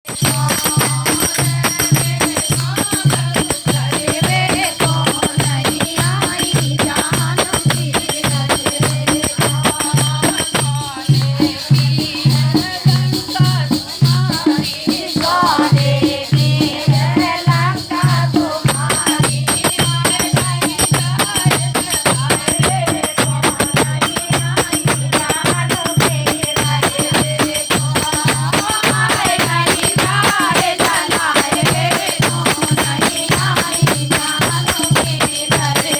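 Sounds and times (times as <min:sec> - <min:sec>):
drum beating steady rhythm: 0:00.1 - 0:35.9
jingling shaken percussion: 0:00.1 - 0:35.9
devotional folk song singing: 0:00.2 - 0:35.9.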